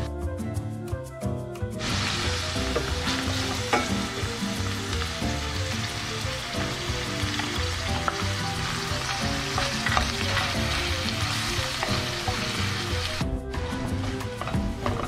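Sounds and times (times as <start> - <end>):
meat and rice sizzling in a pan: 1.8 - 15.0.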